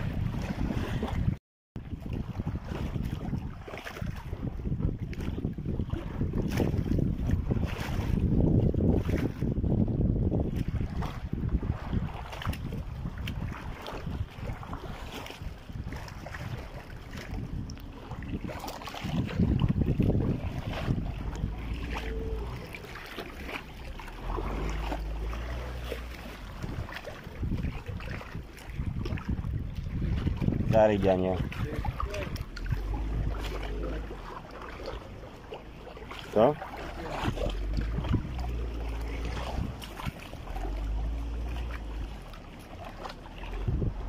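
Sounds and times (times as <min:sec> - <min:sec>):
water churning: 0:00.0 - 0:44.0
wind buffeting microphone: 0:00.0 - 0:44.0
low motor hum: 0:04.2 - 0:44.0.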